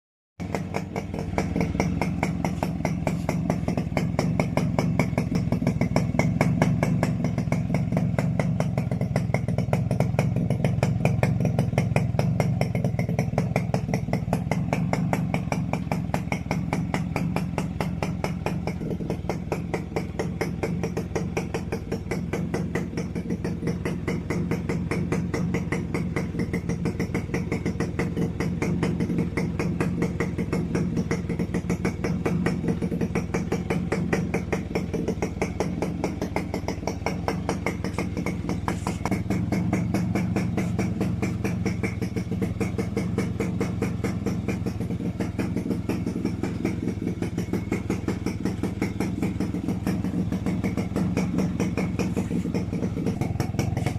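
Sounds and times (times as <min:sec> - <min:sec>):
two-stroke engine idling: 0:00.4 - 0:53.9.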